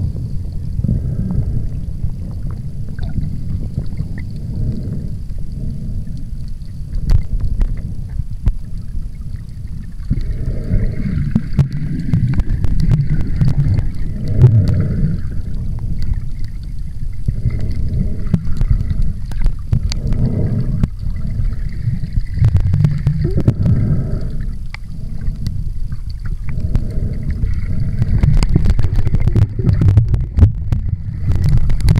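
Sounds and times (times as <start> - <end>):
underwater water rumble: 0.0 - 31.9
faint clicks: 5.2 - 31.9.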